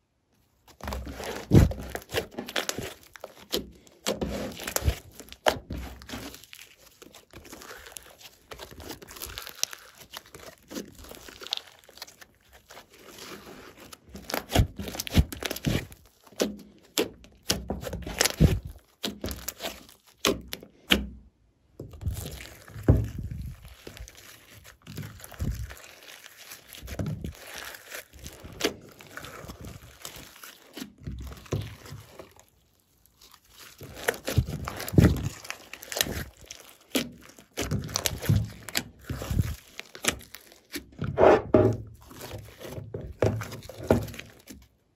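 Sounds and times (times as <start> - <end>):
hands squishing slime: 0.6 - 21.1, 21.8 - 44.9.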